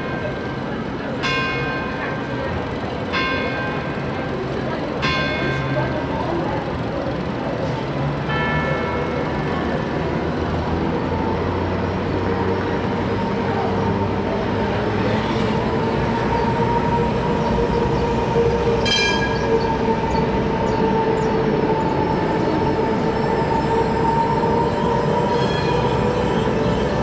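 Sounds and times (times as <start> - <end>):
tram passing with electric whine: 0.0 - 27.0
tram wheel squeak: 0.0 - 27.0.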